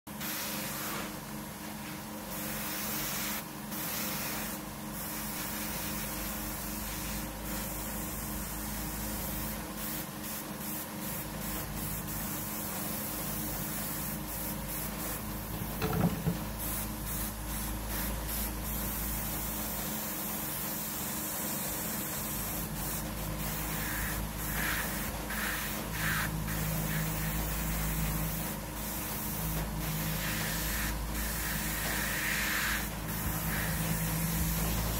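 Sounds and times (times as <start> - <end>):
airbrush spraying hiss: 0.1 - 34.9
steady low hum: 0.2 - 34.9.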